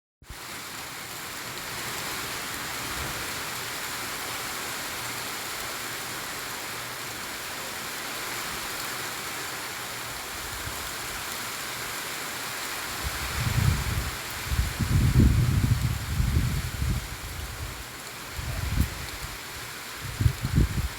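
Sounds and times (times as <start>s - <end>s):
steady rain falling: 0.2s - 20.9s.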